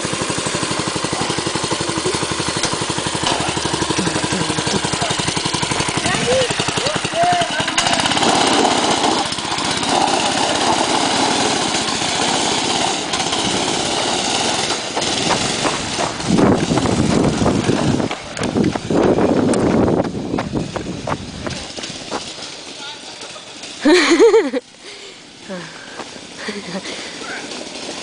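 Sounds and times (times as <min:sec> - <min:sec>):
go-kart engine running: 0:00.0 - 0:28.0
tyres on gravel: 0:00.0 - 0:28.0.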